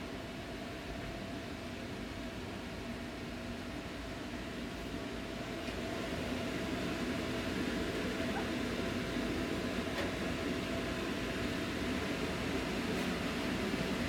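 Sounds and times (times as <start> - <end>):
range hood fan whirring: 0.0 - 14.0.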